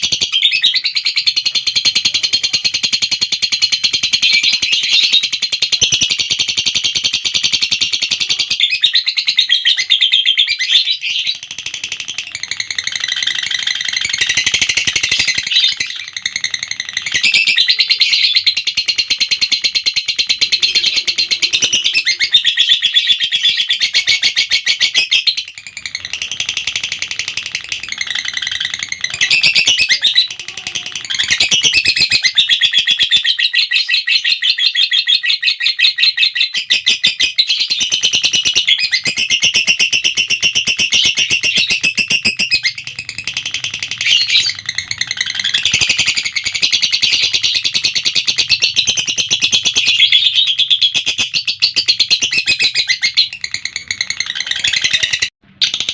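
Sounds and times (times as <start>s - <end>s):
bird chattering trill: 0.0s - 55.9s.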